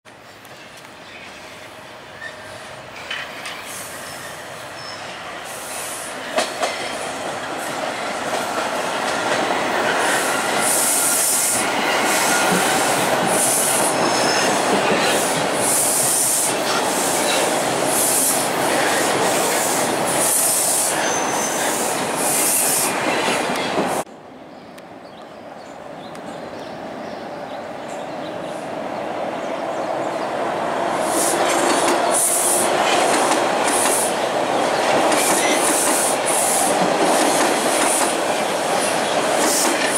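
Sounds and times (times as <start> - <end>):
subway train passing: 0.1 - 39.9.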